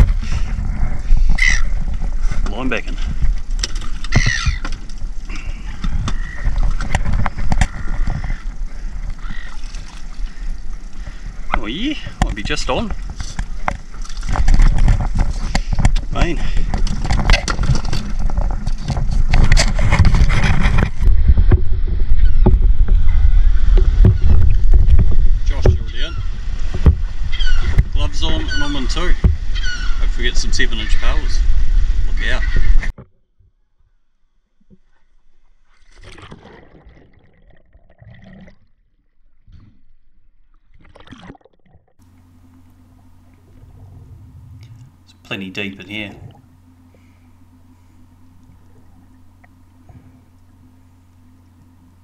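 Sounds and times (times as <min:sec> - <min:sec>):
rumbling wind and water: 0:00.0 - 0:33.2, 0:34.6 - 0:52.0.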